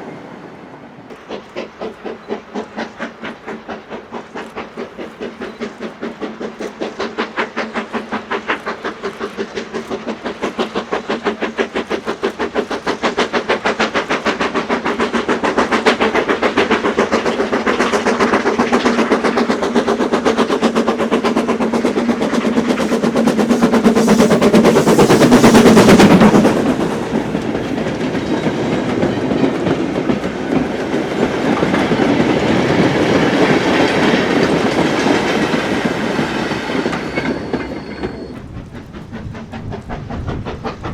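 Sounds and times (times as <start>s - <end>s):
steam locomotive exhaust beats: 0.0s - 40.9s
wagons clattering over rail joints: 1.2s - 40.9s.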